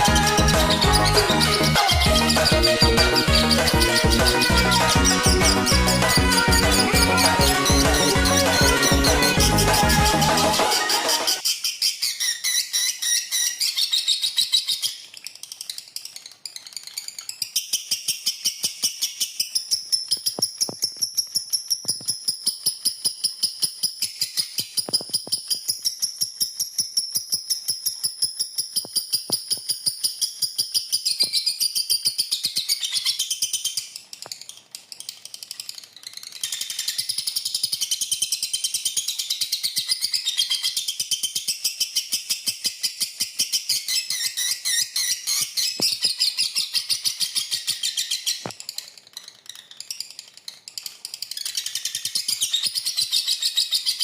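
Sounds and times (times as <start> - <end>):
lovebird chattering: 0.0 - 54.0.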